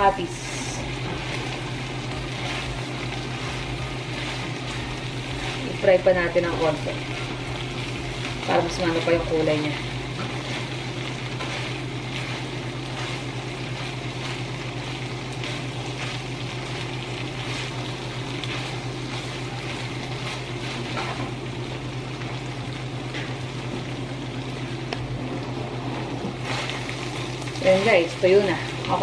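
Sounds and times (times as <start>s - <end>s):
low hum: 0.0s - 29.0s
meat sizzling in fat: 0.0s - 29.0s.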